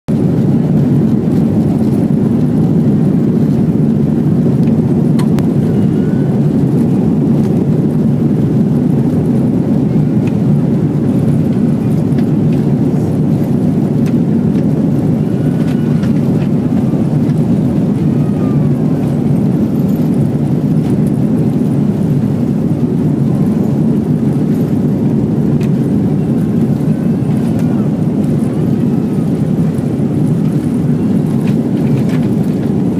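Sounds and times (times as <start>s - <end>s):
jet engine and rolling noise: 0.1s - 32.9s.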